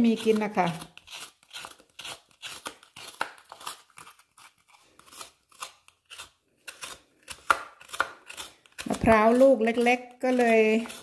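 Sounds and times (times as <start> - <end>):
coconut scraper rasping: 0.0 - 11.0.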